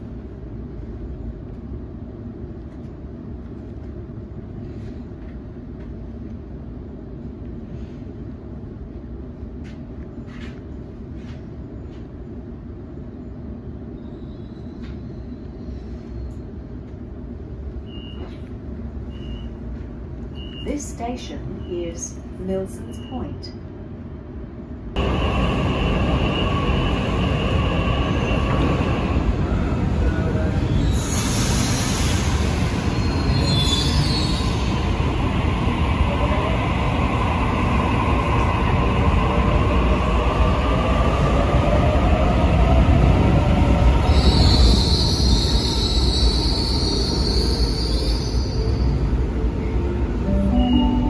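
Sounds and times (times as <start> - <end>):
train inverter whine: 0.0 - 51.0.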